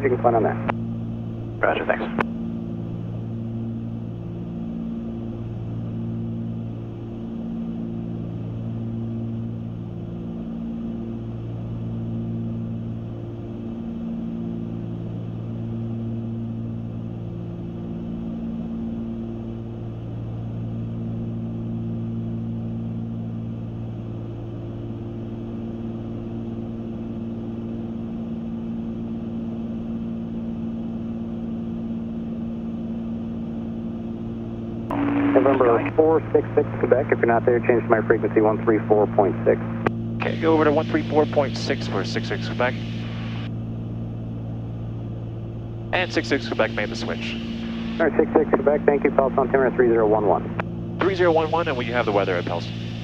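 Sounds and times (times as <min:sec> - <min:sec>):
twin propeller engines droning: 0:00.0 - 0:53.0.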